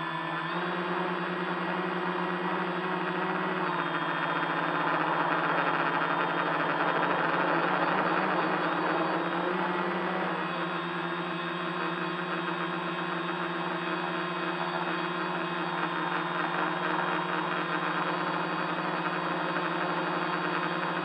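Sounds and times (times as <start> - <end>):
drone propellers whirring: 0.0 - 21.0.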